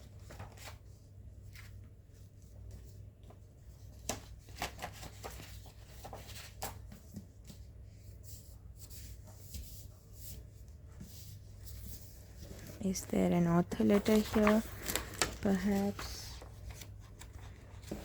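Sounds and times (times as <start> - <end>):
book pages rustling: 0.0 - 18.0.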